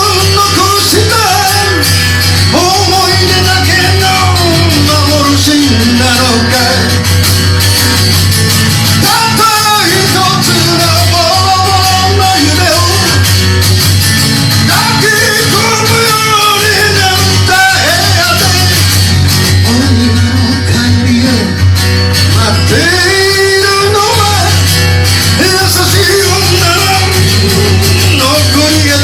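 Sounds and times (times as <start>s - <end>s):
person singing: 0.0s - 7.1s, 9.0s - 13.4s, 14.6s - 29.0s
bass line: 0.0s - 29.0s
electric guitar: 0.0s - 29.0s.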